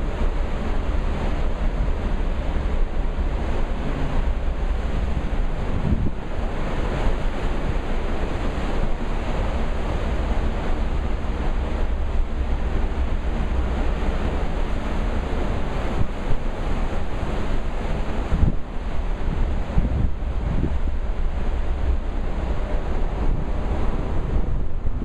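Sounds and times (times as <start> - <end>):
ship wake water rushing: 0.0 - 25.0
wind buffeting microphone: 0.0 - 25.0.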